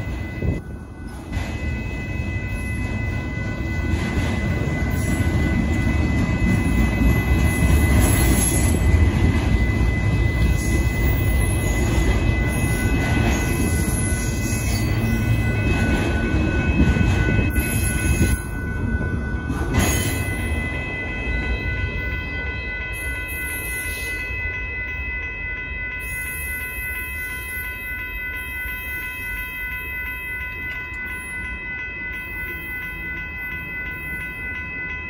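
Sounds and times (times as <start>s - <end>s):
freight train rumbling: 0.0s - 35.0s
steady high-pitched tone: 0.0s - 35.0s.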